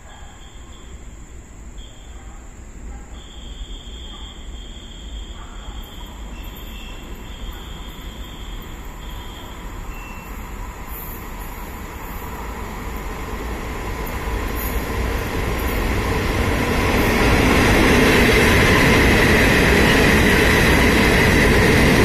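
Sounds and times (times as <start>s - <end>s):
freight train rumble: 0.0s - 22.0s.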